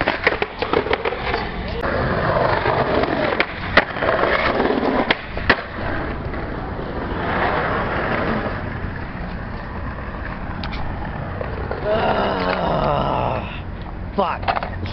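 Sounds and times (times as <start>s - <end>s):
skateboard clacking: 0.0s - 12.6s, 13.8s - 14.9s
skateboard wheels rolling on bricks: 0.0s - 13.4s.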